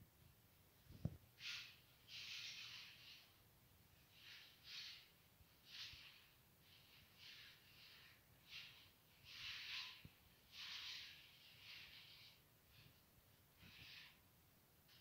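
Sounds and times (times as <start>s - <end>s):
float scraping plastered wall: 1.0s - 3.4s, 4.0s - 14.3s.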